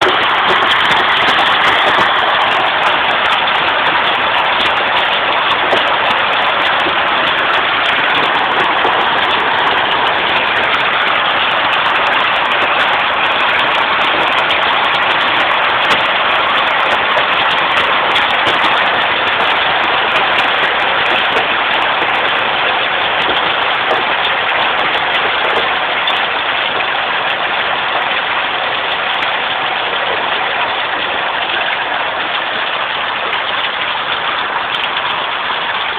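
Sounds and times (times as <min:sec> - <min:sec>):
heavy rain and hail: 0:00.0 - 0:35.9.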